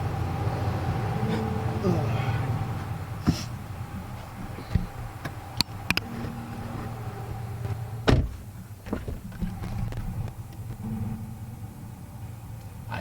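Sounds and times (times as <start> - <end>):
vehicle humming: 0.0 - 13.0
heavy thump: 1.2 - 11.9.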